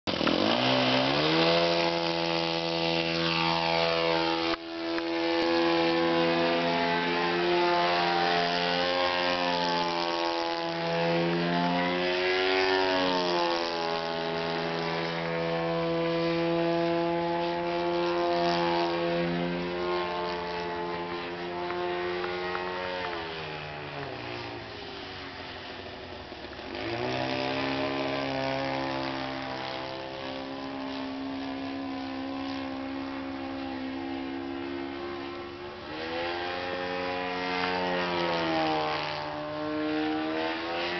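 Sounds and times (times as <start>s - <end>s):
model airplane engine and propeller: 0.0s - 40.9s.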